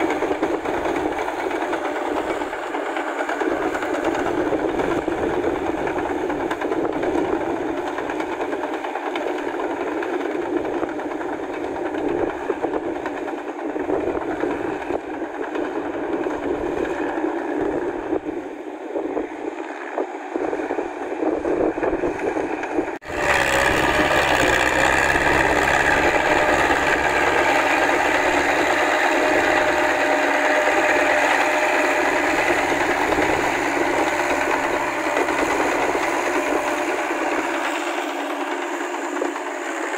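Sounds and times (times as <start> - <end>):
tractor engine under load: 0.0 - 17.8, 22.6 - 39.9
tracks and tiller clatter: 0.0 - 18.6, 21.0 - 39.9.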